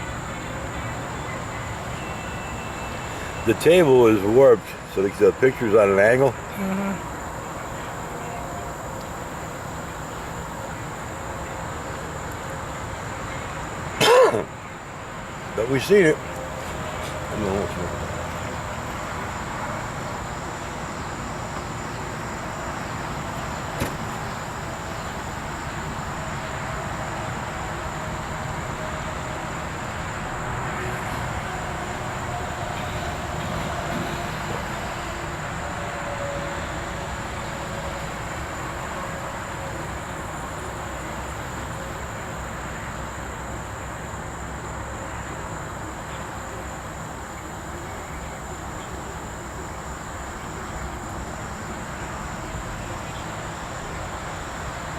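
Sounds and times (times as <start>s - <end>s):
outdoor background noise: 0.0s - 54.9s.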